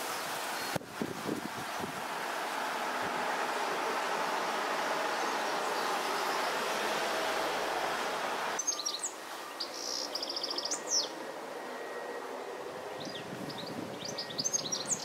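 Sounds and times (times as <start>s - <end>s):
songbirds chirping: 0.0s - 15.0s
steady outdoor background noise: 0.0s - 15.0s.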